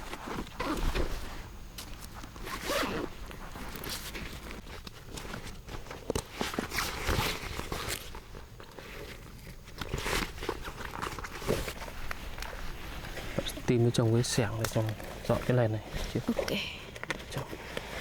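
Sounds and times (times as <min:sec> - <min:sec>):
rustling: 0:00.0 - 0:18.0.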